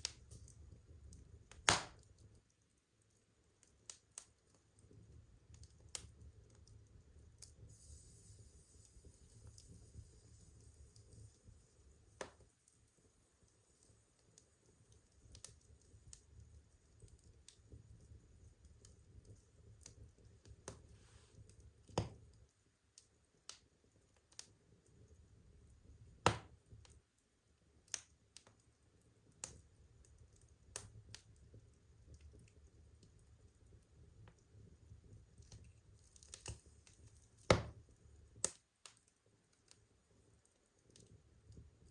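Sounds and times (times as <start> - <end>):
firewood crackling: 0.0 - 27.0, 27.7 - 41.9.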